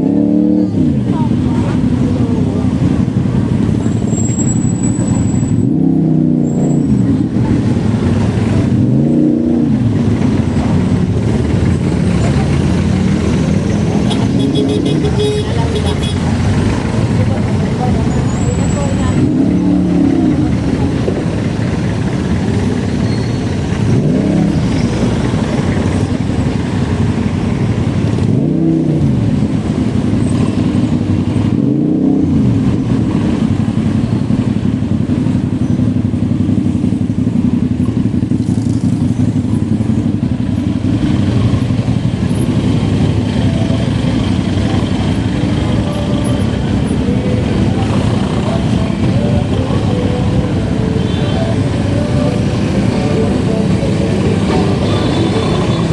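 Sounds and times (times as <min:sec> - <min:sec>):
road and wind noise: 0:00.0 - 0:55.9
vehicles passing: 0:00.0 - 0:55.9.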